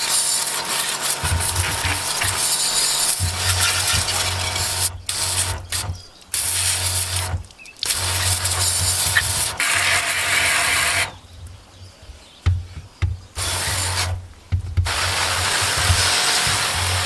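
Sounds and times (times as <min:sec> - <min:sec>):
pump humming: 0:00.0 - 0:11.2, 0:13.4 - 0:17.0
water spray hissing: 0:00.0 - 0:11.2, 0:13.4 - 0:17.0.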